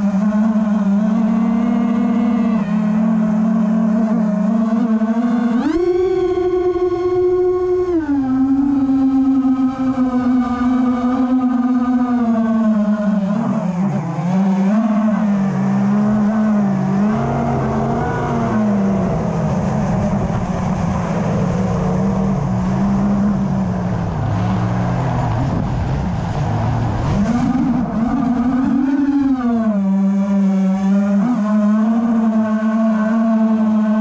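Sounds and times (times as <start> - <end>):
drone propellers whining: 0.0 - 34.0.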